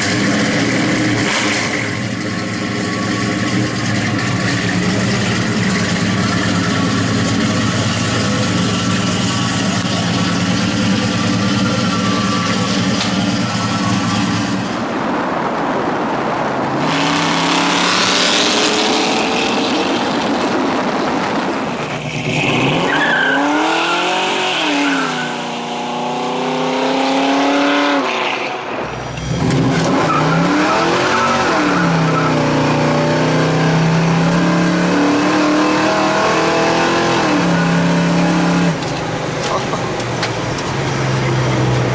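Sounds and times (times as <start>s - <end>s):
car engine running hard: 0.0s - 41.9s.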